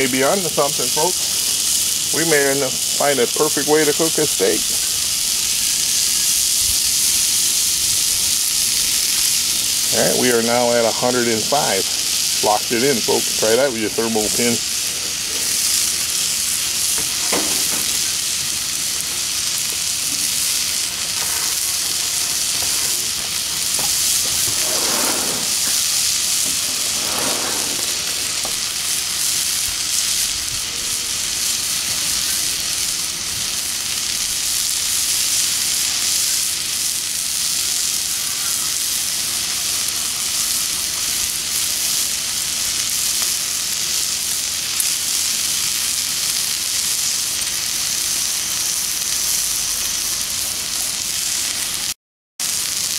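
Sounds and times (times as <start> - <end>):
steak sizzling on a griddle: 0.0 - 52.9.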